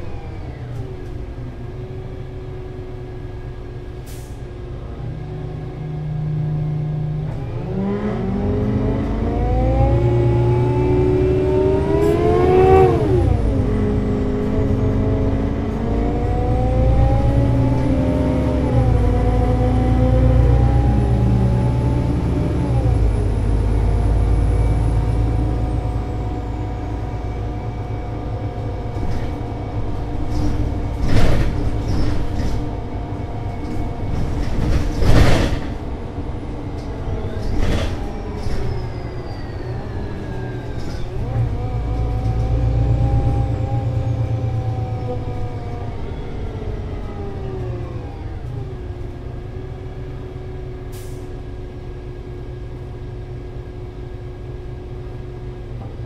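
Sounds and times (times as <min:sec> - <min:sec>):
bus engine pulling away: 0:00.0 - 0:56.0.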